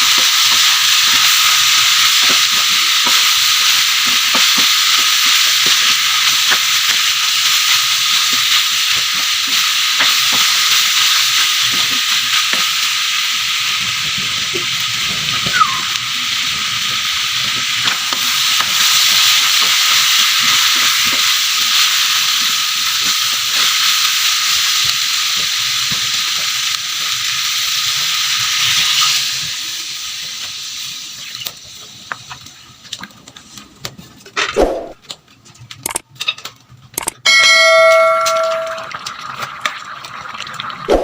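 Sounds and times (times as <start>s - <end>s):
food sizzling in a pan: 0.0s - 33.1s, 37.3s - 41.0s.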